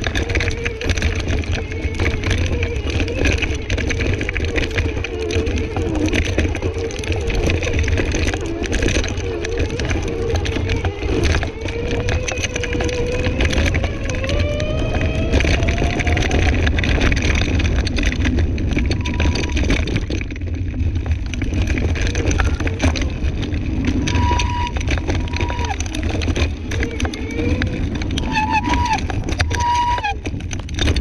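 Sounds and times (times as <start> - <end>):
rattling and clicks: 0.0 - 31.0
scooter rumble on dirt path: 0.0 - 31.0.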